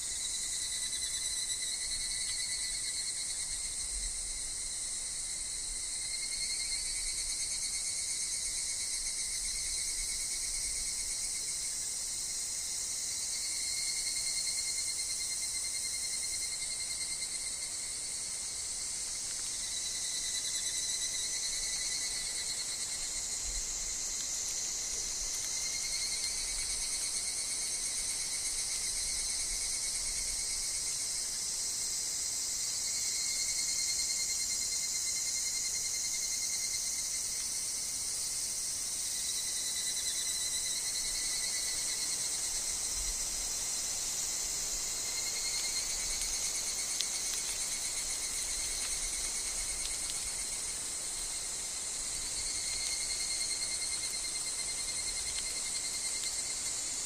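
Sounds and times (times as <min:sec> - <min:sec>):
insect chorus with cicadas: 0:00.0 - 0:57.0.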